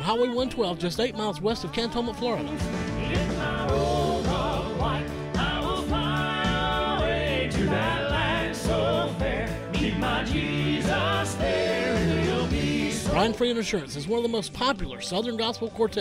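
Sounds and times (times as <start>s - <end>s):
male vocal quartet singing: 0.0s - 13.5s
musical backing: 0.0s - 16.0s.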